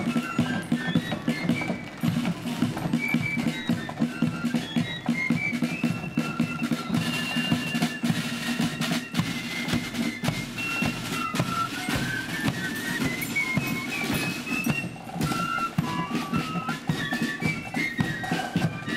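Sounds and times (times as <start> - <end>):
flutes playing melody: 0.0 - 18.9
snare drums: 0.0 - 18.9.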